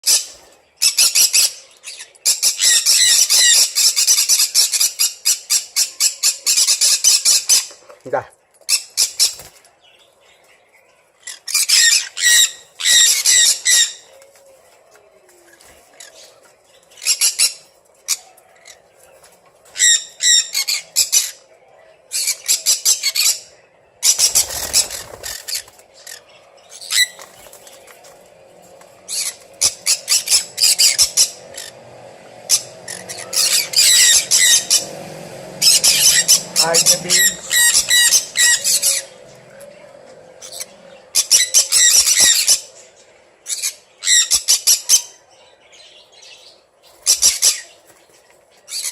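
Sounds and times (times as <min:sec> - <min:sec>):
parrots squawking: 0:00.0 - 0:07.8, 0:08.7 - 0:09.5, 0:11.2 - 0:14.1, 0:16.9 - 0:19.0, 0:19.6 - 0:21.5, 0:22.1 - 0:45.2, 0:46.4 - 0:47.8, 0:48.7 - 0:48.9.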